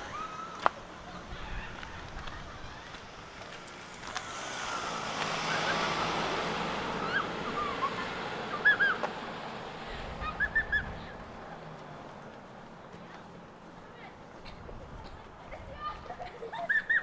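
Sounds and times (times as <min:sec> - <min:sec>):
vehicle passing: 0:00.0 - 0:16.5.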